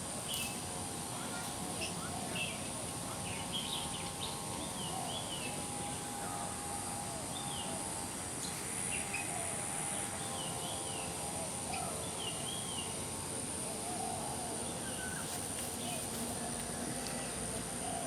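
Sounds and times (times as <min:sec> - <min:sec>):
steady high whine: 0:00.0 - 0:18.0.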